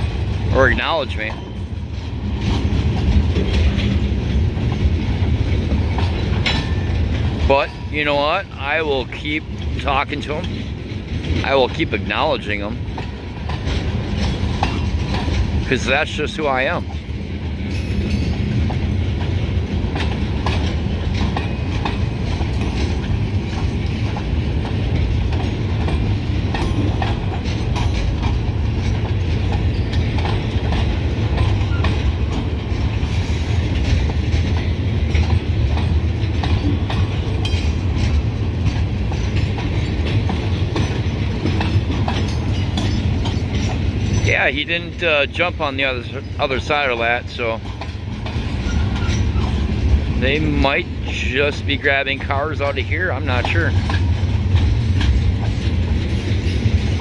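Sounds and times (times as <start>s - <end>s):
sharp clicks and clanks: 0.0s - 8.2s, 8.8s - 57.0s
freight car wheels rumbling on rail: 0.0s - 57.0s.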